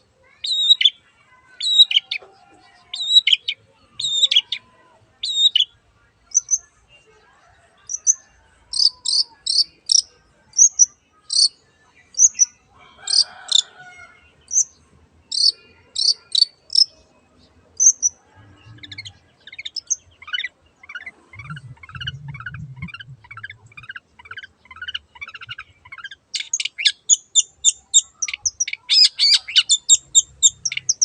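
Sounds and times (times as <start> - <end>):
bird chirping and trilling: 0.4 - 1.0, 1.6 - 2.2, 2.9 - 5.7, 6.3 - 6.7, 7.9 - 13.7, 14.5 - 17.0, 17.8 - 31.0.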